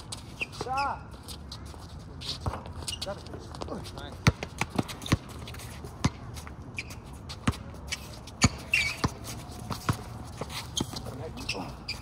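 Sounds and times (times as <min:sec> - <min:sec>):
sneakers scuffing on court: 0:00.0 - 0:12.0
basketball bouncing on asphalt: 0:02.4 - 0:12.0.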